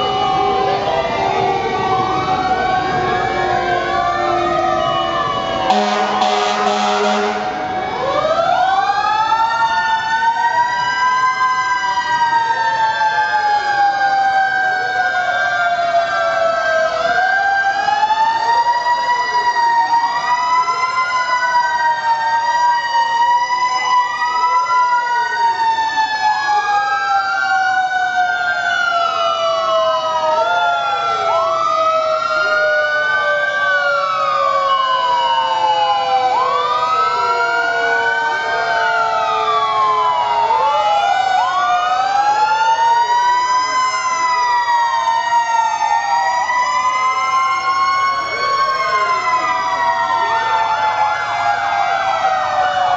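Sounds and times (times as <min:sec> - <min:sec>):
long siren tone sliding down: 0:00.0 - 0:52.9
wailing fire engine sirens: 0:00.0 - 0:52.9.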